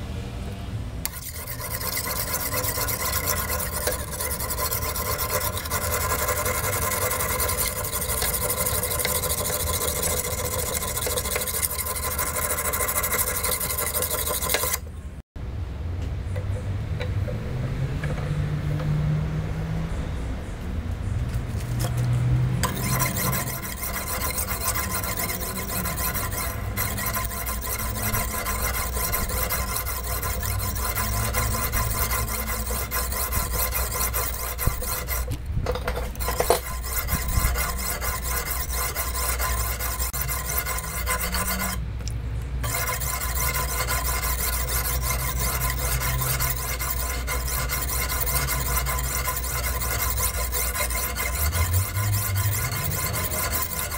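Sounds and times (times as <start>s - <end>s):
sharpening stone scraping knife: 1.0s - 14.8s, 22.6s - 41.8s, 42.6s - 53.9s.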